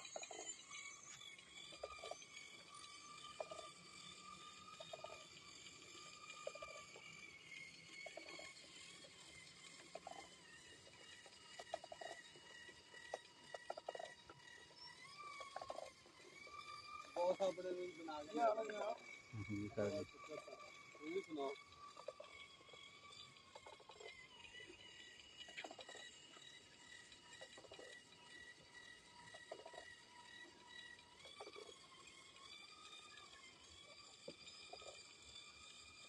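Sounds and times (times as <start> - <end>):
welding machine whine: 0.0 - 36.0.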